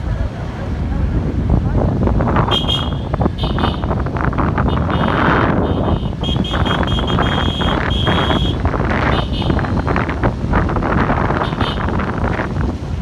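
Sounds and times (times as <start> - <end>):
vehicle running: 0.0 - 13.0
wind noise on microphone: 0.0 - 13.0.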